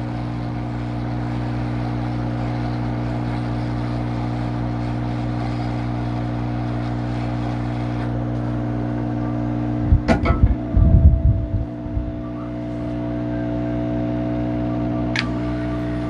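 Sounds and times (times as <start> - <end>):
hot air station fan hum: 0.0 - 16.0.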